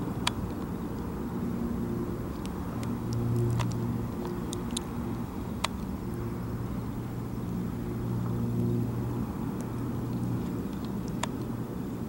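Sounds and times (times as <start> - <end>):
distant diesel locomotive drone: 0.0 - 12.0.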